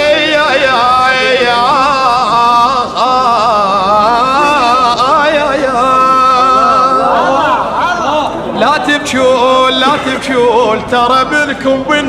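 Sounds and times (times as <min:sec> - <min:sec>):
man singing a lament: 0:00.0 - 0:12.0.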